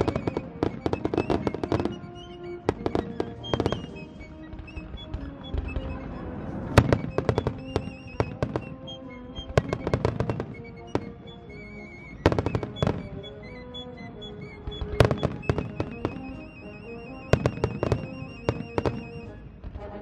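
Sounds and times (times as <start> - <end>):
fireworks bursting with sharp bangs: 0.0 - 20.0
music playing: 0.0 - 20.0.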